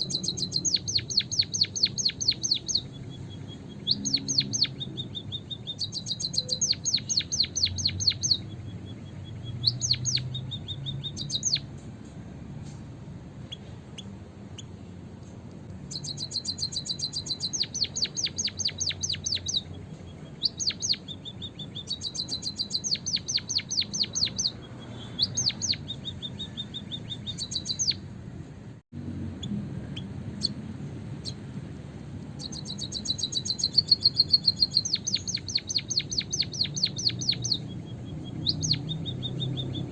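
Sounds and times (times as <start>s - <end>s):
munia bird chirping: 0.0s - 28.2s, 29.2s - 39.9s.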